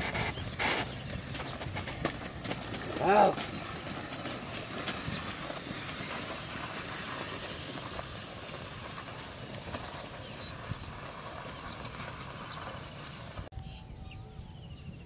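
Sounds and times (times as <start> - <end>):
hooves plodding on soil: 0.0 - 13.5
steady outdoor hiss: 0.0 - 14.1.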